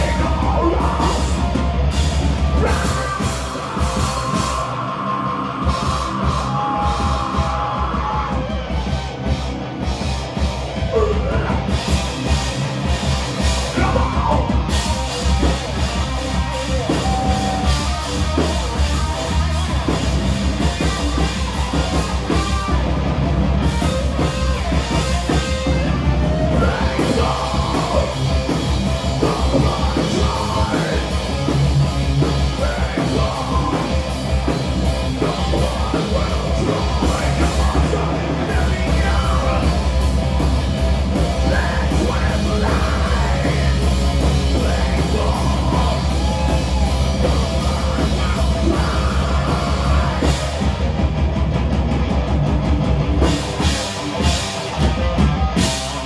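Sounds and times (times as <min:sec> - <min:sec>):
heavy metal band playing: 0:00.0 - 0:56.0
yelled vocals: 0:00.0 - 0:56.0.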